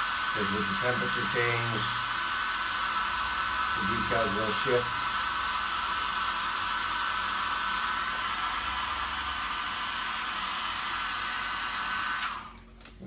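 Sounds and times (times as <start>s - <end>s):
heat gun blowing hot air: 0.0s - 12.8s.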